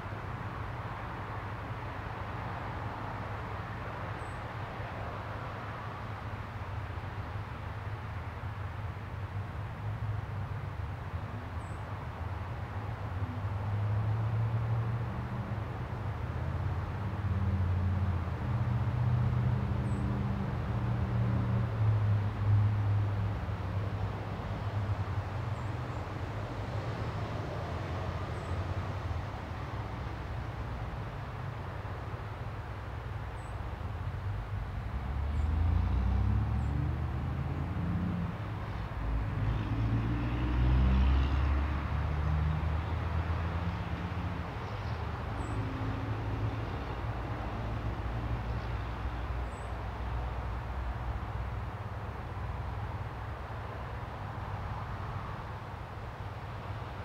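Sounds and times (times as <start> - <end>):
distant passing traffic rumble: 9.3 - 57.0.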